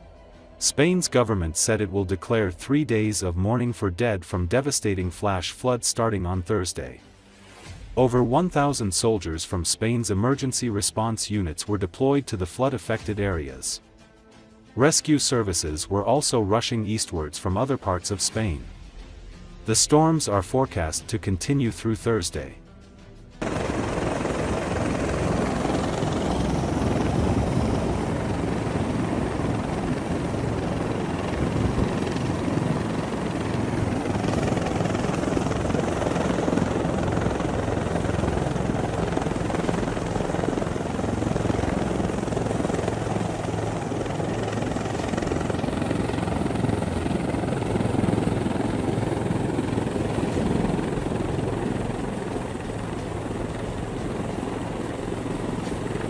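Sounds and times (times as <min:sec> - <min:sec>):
helicopter hovering overhead: 0:00.0 - 0:56.0.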